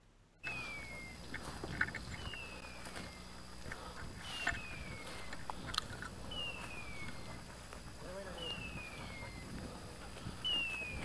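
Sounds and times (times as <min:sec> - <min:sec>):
electronic collar chirp: 0:00.3 - 0:03.6, 0:04.2 - 0:07.5, 0:08.1 - 0:09.6, 0:10.3 - 0:11.0
twigs crackling underfoot: 0:00.4 - 0:11.0.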